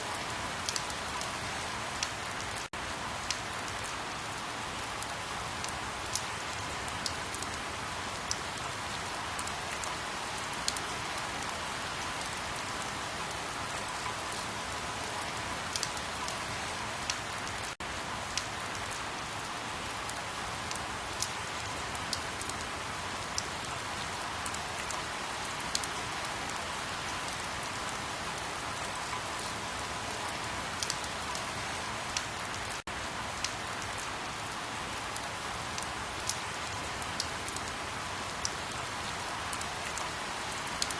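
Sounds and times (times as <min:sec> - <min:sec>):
sharp ticks of raindrops: 0:00.0 - 0:40.9
steady rain hiss: 0:00.0 - 0:40.9.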